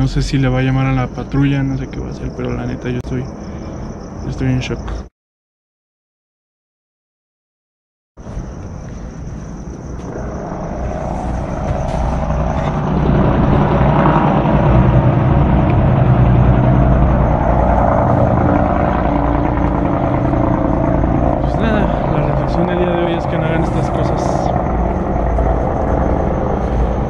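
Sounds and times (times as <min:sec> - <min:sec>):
helicopter rumbling overhead: 0:00.0 - 0:05.0, 0:09.6 - 0:27.0.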